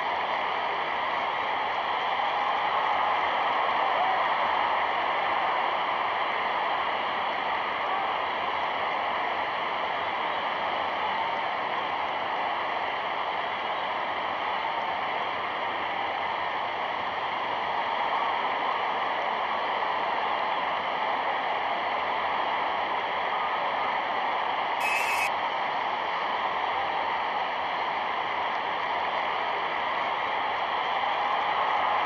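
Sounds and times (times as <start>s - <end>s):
film soundtrack hiss: 0.0s - 32.0s.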